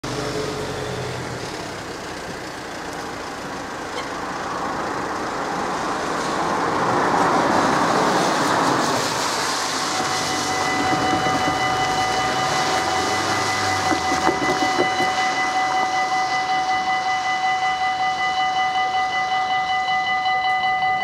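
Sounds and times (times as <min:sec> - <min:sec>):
tyres hissing on wet road: 0:00.0 - 0:18.1
car engine noise: 0:00.0 - 0:18.4.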